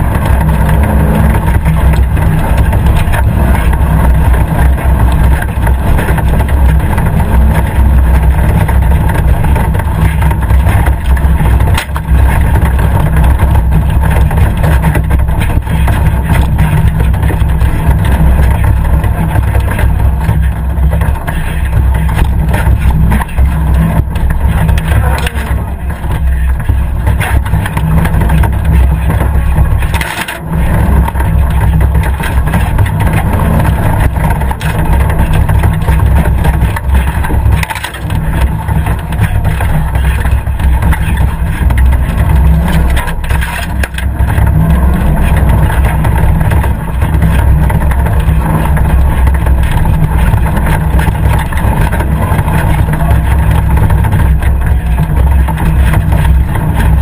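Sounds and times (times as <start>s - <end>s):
off-road vehicle engine running hard: 0.0s - 57.0s.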